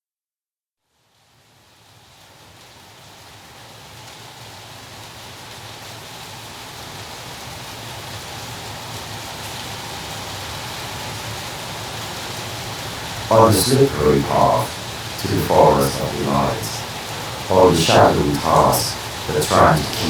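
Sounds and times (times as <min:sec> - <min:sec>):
pouring rain: 0:01.1 - 0:20.0.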